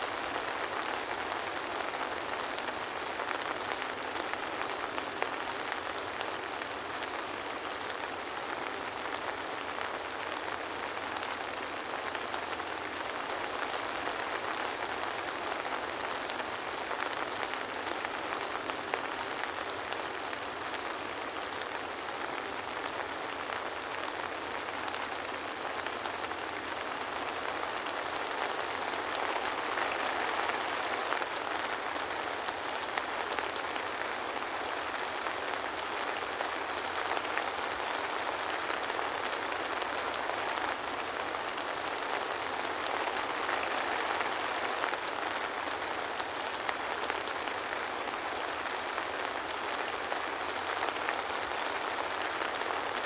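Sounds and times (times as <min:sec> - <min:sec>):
soft rain falling: 0:00.0 - 0:53.0.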